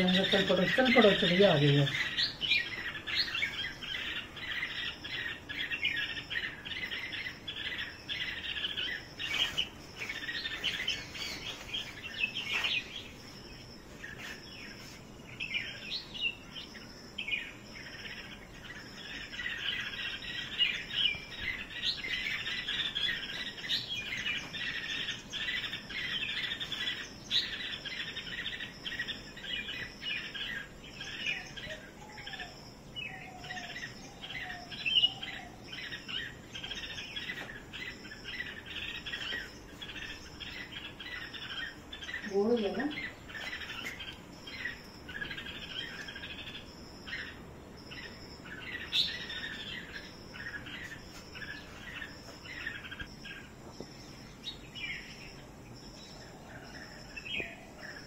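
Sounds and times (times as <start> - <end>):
bulbuls chirping and calling: 0.0 - 58.0.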